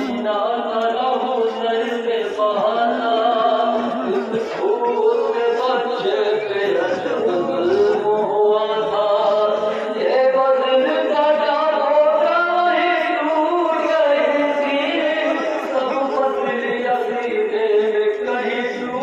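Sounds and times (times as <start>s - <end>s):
voices chanting a lament: 0.0s - 19.0s.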